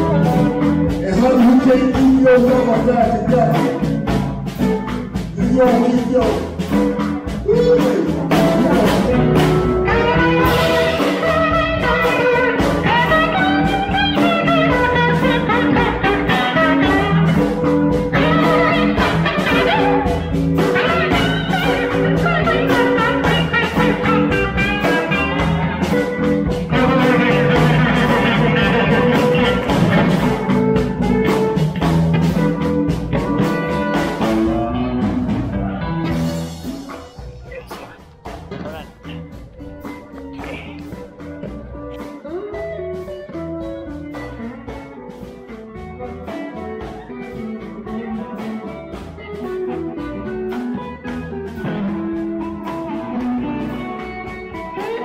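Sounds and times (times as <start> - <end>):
electric guitar: 0.0 - 55.0
live electric blues band: 0.0 - 55.0.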